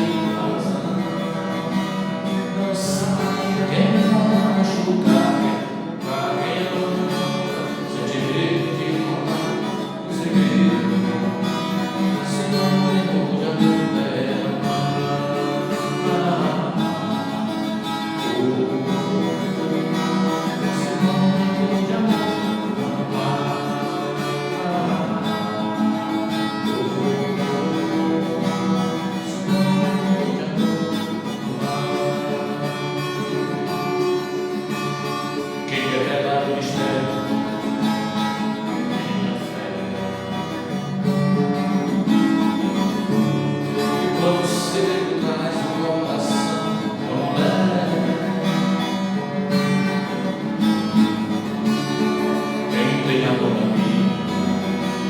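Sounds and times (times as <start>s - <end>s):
acoustic guitar strummed and plucked: 0.0s - 55.0s.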